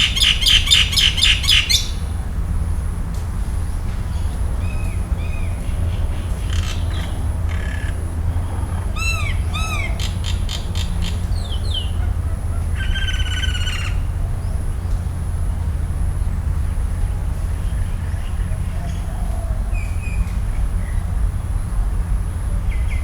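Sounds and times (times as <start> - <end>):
forest birds calling: 0.0 - 23.0
steady low rumble: 0.0 - 23.0.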